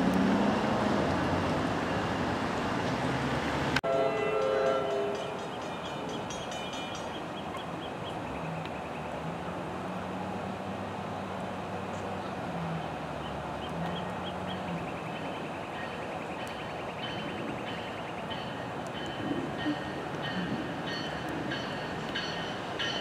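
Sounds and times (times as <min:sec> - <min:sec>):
clicking along rails: 0:00.0 - 0:10.6, 0:11.3 - 0:23.0
distant train rumble: 0:00.0 - 0:23.0.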